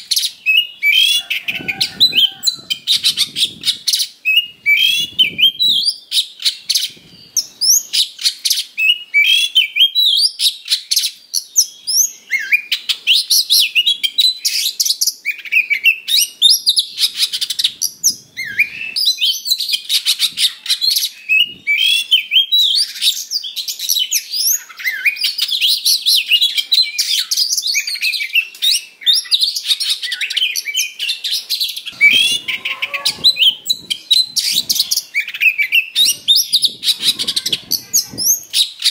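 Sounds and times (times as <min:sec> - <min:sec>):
songbird singing varied whistles: 0:00.0 - 0:37.2.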